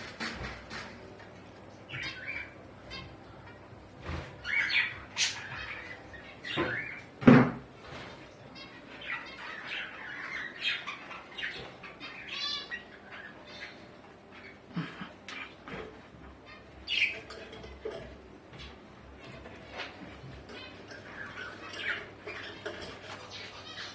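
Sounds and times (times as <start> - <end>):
birds chirping and squawking: 0.0 - 23.9.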